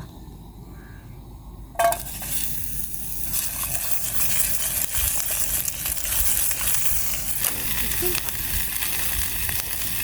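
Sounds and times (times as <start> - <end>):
peppers sizzling in a pan: 1.8 - 10.0.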